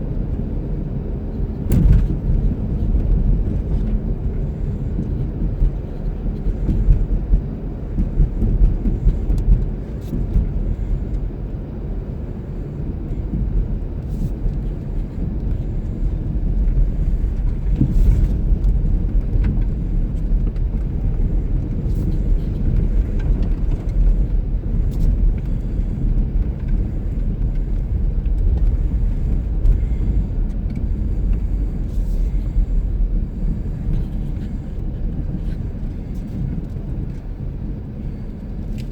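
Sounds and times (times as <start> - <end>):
blizzard wind on microphone: 0.0 - 38.9.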